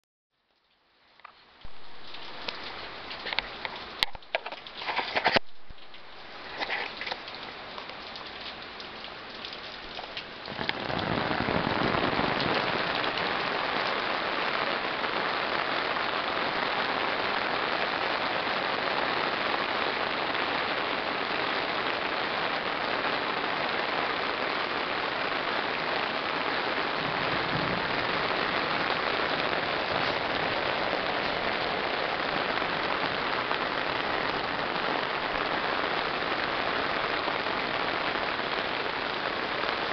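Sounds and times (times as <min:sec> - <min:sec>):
heavy rain pouring: 0:00.6 - 0:39.9.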